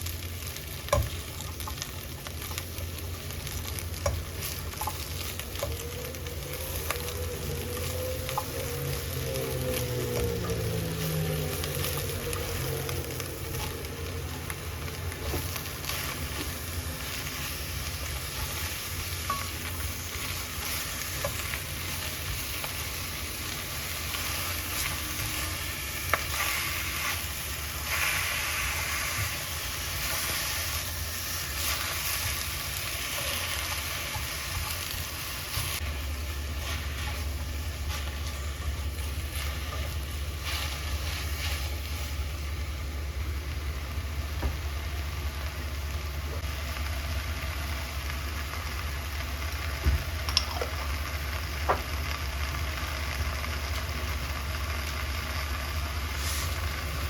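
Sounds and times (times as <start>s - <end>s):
food sizzling in frying pan: 0.0s - 57.0s.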